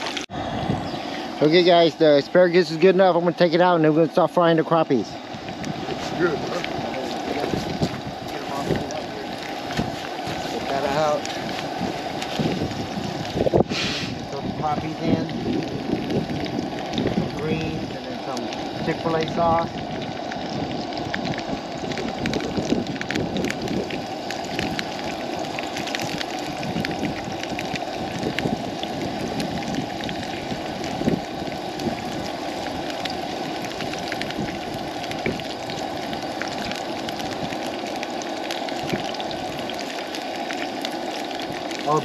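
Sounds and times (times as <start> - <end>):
vegetables sizzling in hot oil: 0.0 - 42.0.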